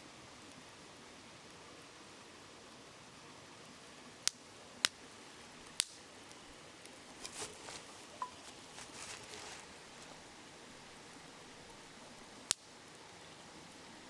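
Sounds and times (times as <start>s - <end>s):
campfire crackling and popping: 0.2s - 14.0s.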